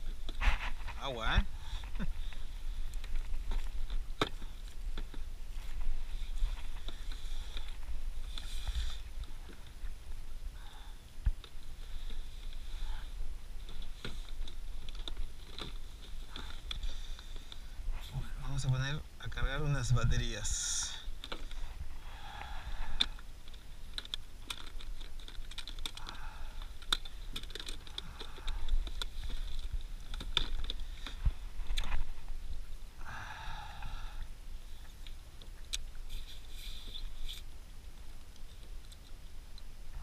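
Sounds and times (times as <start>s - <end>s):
low steady rumble: 0.0s - 40.0s.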